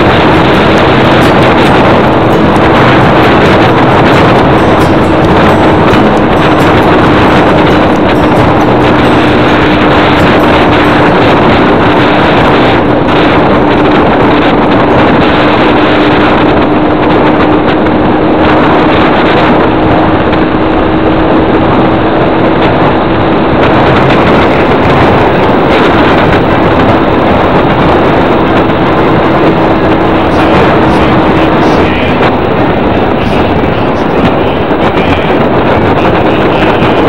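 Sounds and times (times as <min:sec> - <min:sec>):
moving vehicle rushing noise: 0:00.0 - 0:37.0
steady low hum: 0:00.0 - 0:37.0
wind on microphone: 0:00.0 - 0:37.0.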